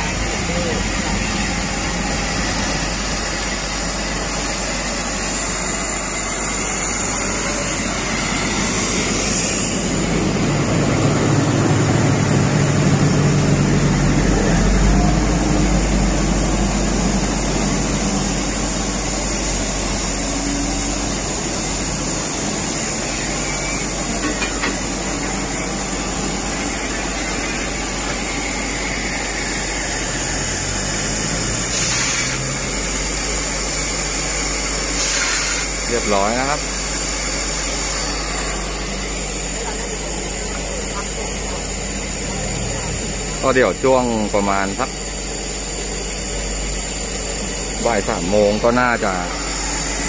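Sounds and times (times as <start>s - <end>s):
locomotive running gear rumble: 0.0s - 50.0s
steam hissing: 0.0s - 50.0s.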